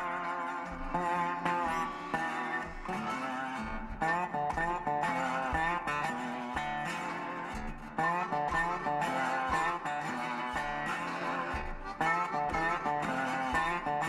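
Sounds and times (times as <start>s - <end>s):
guitar-led instrumental music: 0.0s - 14.0s.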